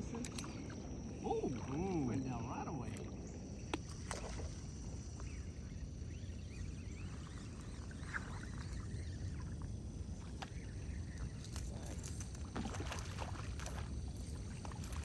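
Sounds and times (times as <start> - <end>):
water lapping: 0.0 - 15.0.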